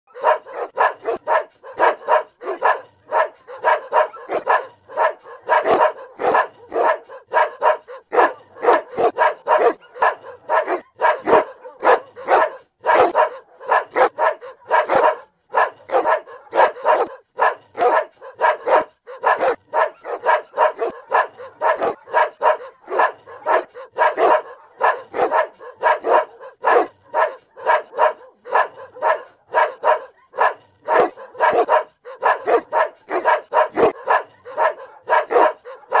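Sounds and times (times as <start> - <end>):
dog barking: 0.1 - 36.0.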